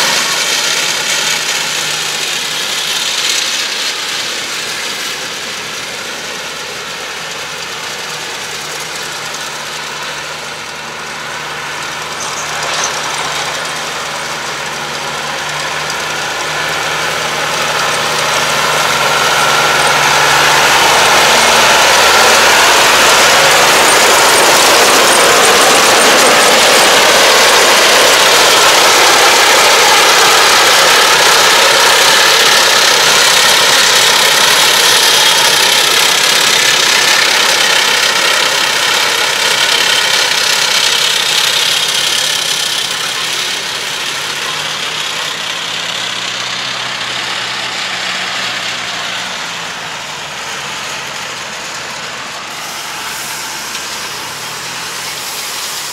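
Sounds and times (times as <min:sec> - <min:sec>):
tractor engine and baler running: 0:00.0 - 0:55.9.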